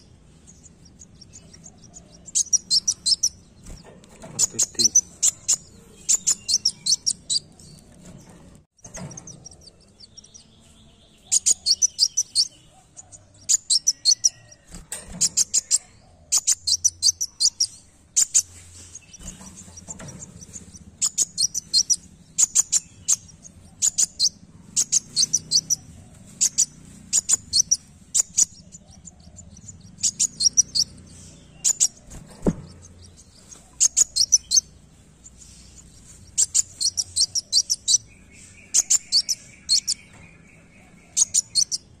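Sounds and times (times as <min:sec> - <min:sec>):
bird chirping high-pitched: 0:00.0 - 0:08.2, 0:08.8 - 0:42.0.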